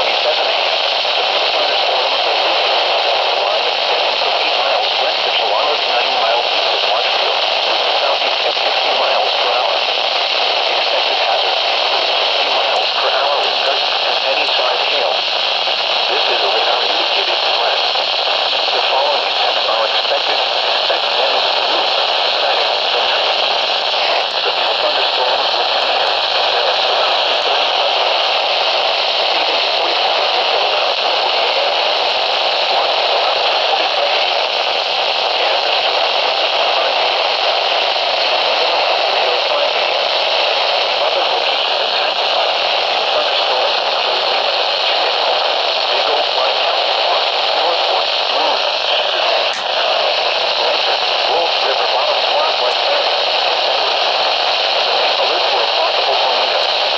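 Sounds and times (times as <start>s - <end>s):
radio static hiss: 0.0s - 56.9s.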